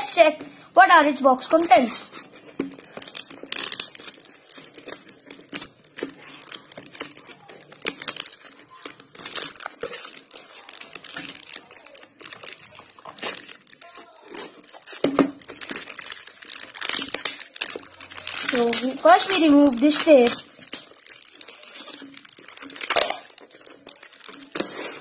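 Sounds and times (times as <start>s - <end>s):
packing tape crinkling and tearing: 1.4s - 25.0s.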